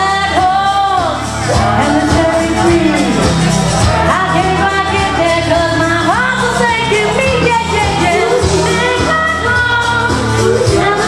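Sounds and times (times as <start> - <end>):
karaoke backing track: 0.0 - 11.0
woman singing into microphone: 0.0 - 11.0.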